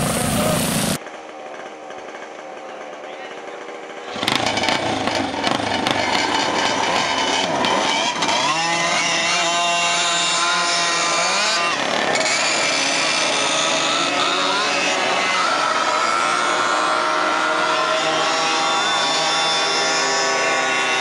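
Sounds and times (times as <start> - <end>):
go-kart engines revving: 0.0 - 21.0.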